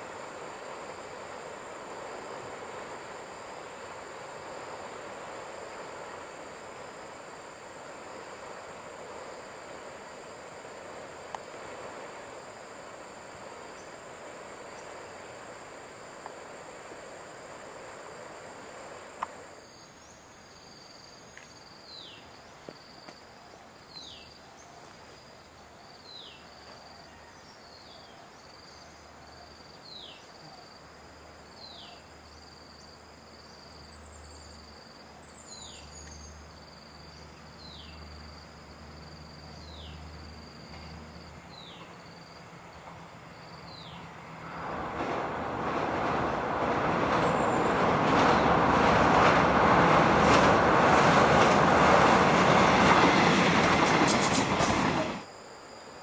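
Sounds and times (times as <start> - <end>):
distant train engine hum: 0.0 - 27.5, 28.8 - 56.0
insects buzzing: 0.0 - 56.0.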